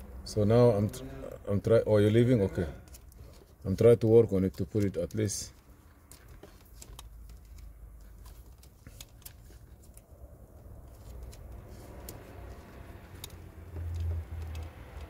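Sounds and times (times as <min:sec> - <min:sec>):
faint clicks and rustling: 0:02.8 - 0:15.0.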